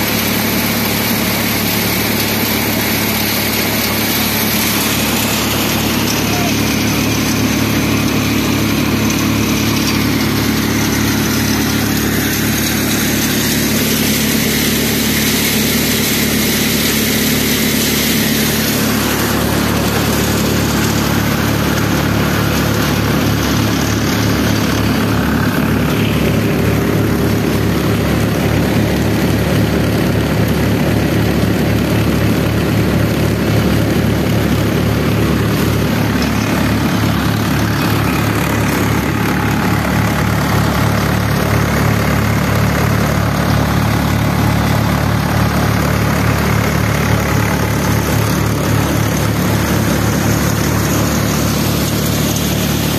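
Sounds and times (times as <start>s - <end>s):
fans rushing: 0.0s - 52.9s
thresher machine hum: 0.0s - 52.9s
tractor diesel engine throbbing: 0.0s - 52.9s.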